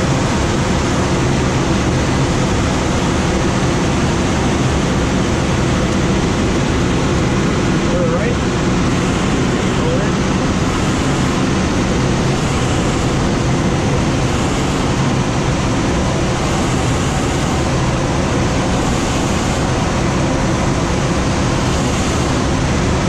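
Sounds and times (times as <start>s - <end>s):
rushing airflow: 0.0s - 23.0s.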